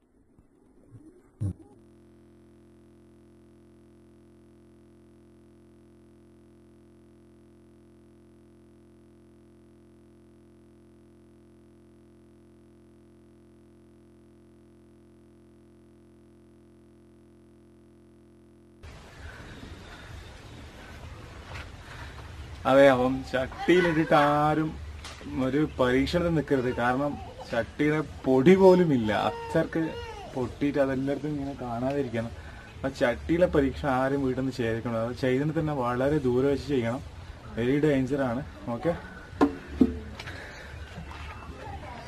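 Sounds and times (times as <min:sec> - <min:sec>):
steady electronic hum: 0:00.0 - 0:42.0.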